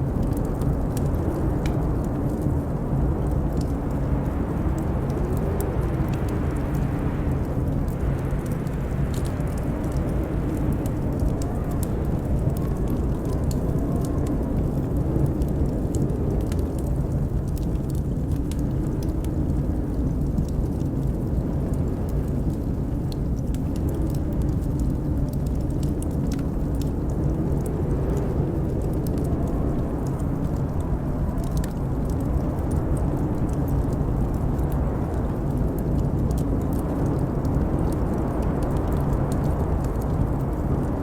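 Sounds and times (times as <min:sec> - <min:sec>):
howling blizzard wind: 0:00.0 - 0:41.0
wood fire crackling: 0:00.0 - 0:41.0.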